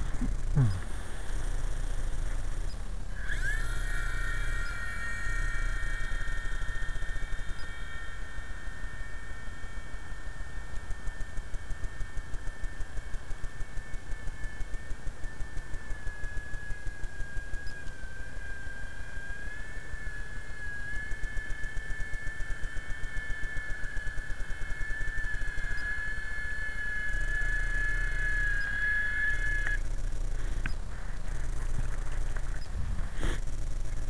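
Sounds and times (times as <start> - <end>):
rc helicopter whine: 0.0 - 34.0.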